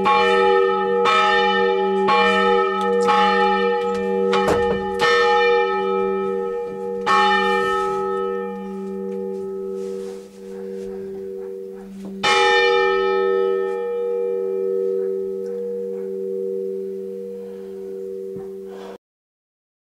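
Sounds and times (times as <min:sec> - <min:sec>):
large bell tolling: 0:00.0 - 0:19.0.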